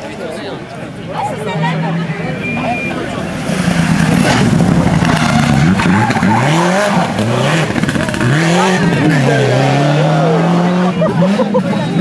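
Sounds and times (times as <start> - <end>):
rally car engine at full throttle: 1.2 - 12.0.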